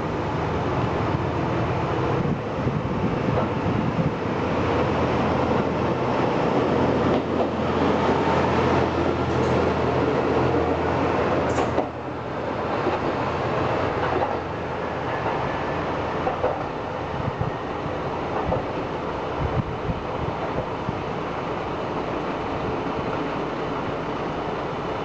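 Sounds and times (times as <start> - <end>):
diesel engine humming: 0.0 - 25.0
moving train noise: 0.0 - 25.0.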